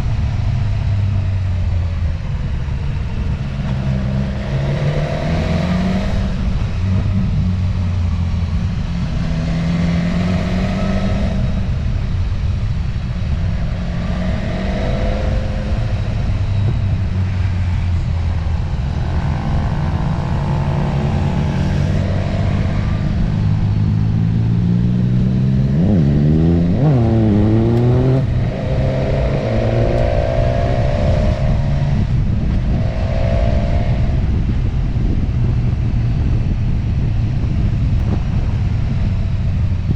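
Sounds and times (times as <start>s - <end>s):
motorcycle engine revving: 0.0s - 39.8s
rushing air noise: 0.0s - 39.9s.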